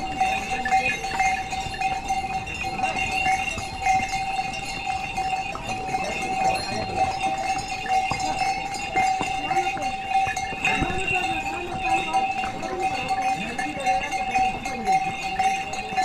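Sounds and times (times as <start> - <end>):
harness bells jingling: 0.0 - 16.0.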